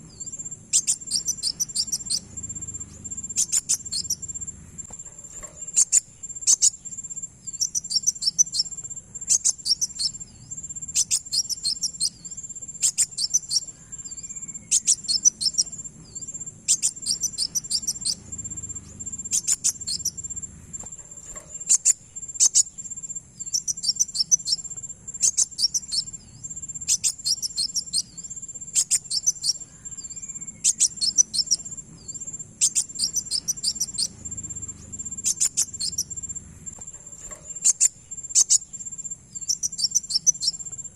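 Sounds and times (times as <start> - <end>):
rapid high bird chirps: 0.0 - 40.9.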